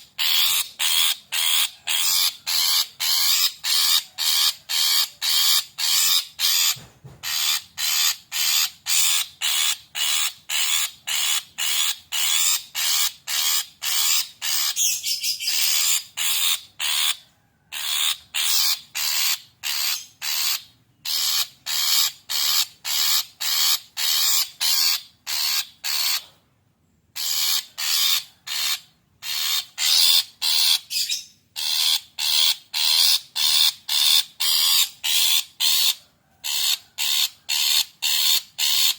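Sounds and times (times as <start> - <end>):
bird harsh chattering calls: 0.0 - 26.4, 27.2 - 38.9.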